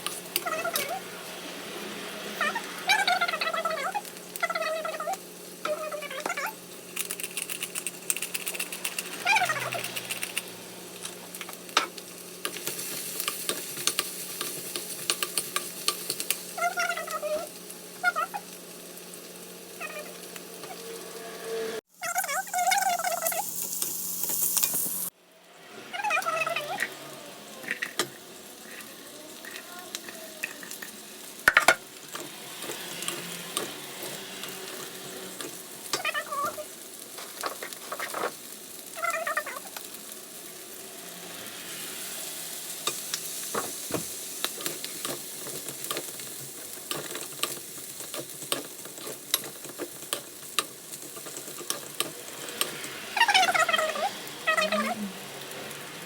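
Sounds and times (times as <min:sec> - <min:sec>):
rice sizzling in a hot pan: 0:00.0 - 0:56.0.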